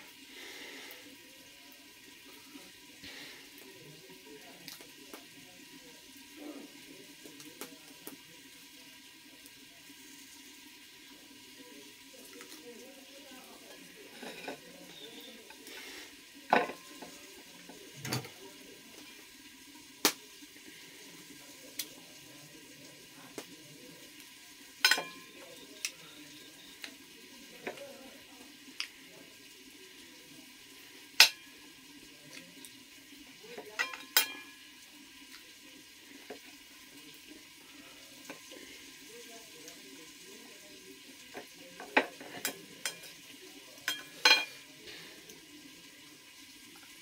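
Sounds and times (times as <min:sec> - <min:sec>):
low steady hiss: 0:00.0 - 0:47.0.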